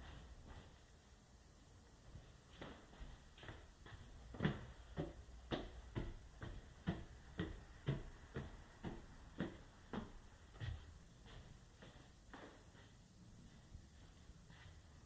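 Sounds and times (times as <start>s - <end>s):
footsteps on indoor floor: 0.0s - 15.0s.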